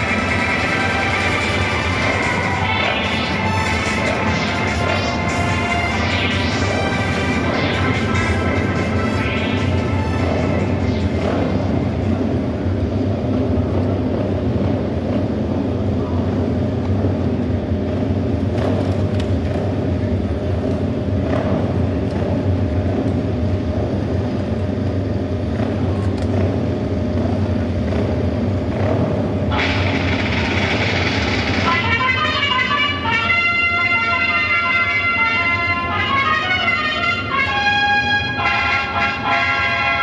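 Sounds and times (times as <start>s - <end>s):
racing motorcycle engines droning: 0.0s - 40.0s.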